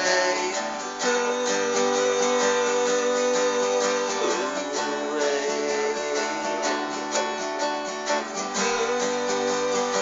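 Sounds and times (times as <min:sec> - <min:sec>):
acoustic guitar strumming: 0:00.0 - 0:10.0
person singing: 0:00.0 - 0:10.0.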